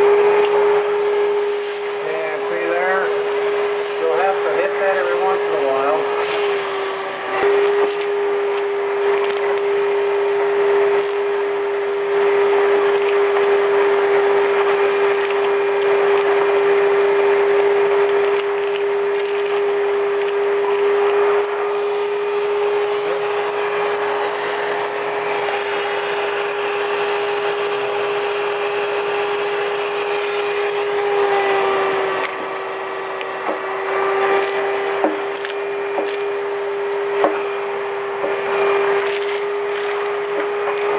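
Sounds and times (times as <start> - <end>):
grit crackling in hose: 0.0 - 6.6, 7.4 - 31.3, 33.2 - 40.9
shop vac whining: 0.0 - 40.9.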